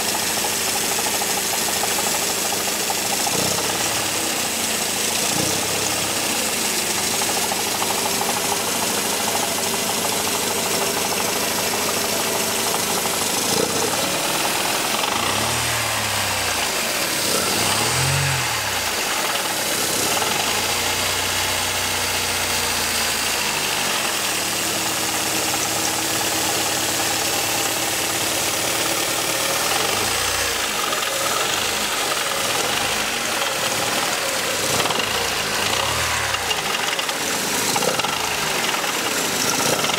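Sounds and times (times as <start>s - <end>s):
car engine rattling: 0.0s - 39.9s.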